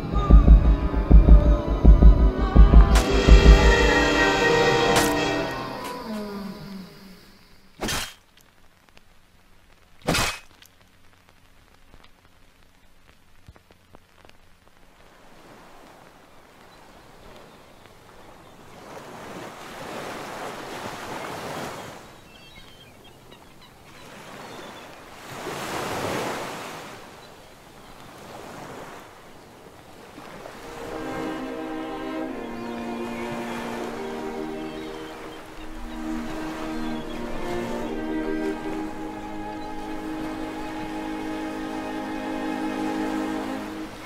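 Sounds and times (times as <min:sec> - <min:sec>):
sea waves breaking: 0:00.0 - 0:08.9, 0:15.0 - 0:44.0.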